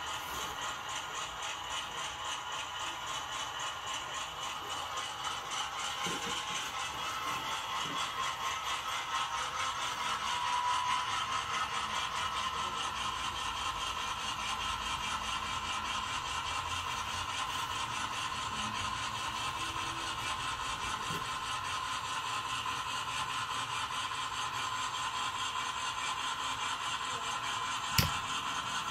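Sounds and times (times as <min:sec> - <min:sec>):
model locomotive humming: 0:00.0 - 0:28.9.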